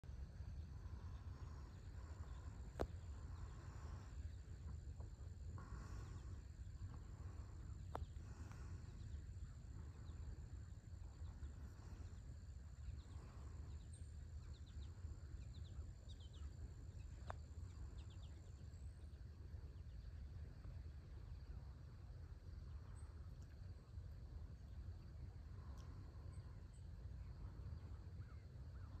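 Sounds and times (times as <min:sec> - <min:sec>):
low rumble: 0:00.0 - 0:28.1
high insect drone: 0:00.1 - 0:29.0.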